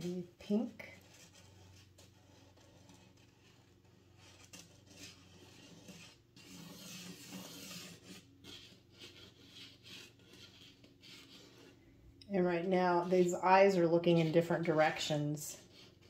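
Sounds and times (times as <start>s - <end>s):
paint pen scratching paper: 0.0s - 11.8s, 12.7s - 16.0s.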